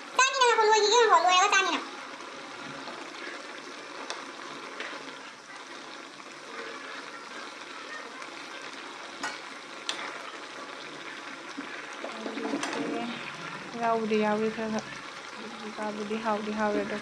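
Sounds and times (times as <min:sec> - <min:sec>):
curry bubbling and sizzling: 0:00.0 - 0:17.0.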